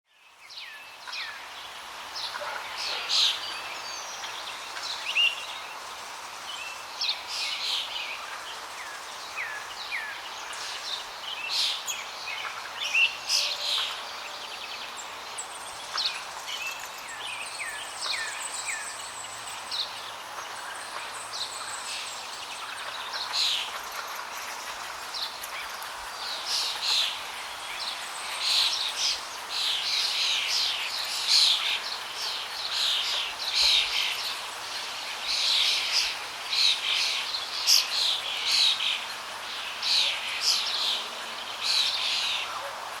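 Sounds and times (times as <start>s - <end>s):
background hiss: 0.1s - 43.0s.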